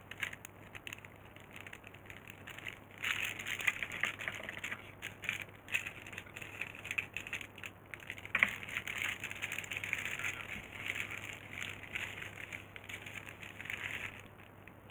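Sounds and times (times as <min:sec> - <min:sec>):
faint steady hum: 0:00.0 - 0:14.9
handling crackling and rustling: 0:00.0 - 0:14.9.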